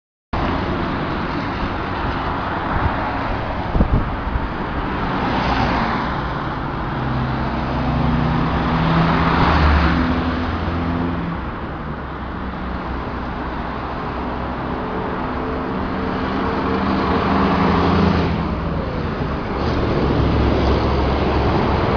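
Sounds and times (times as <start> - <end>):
cars passing: 0.4 - 21.9.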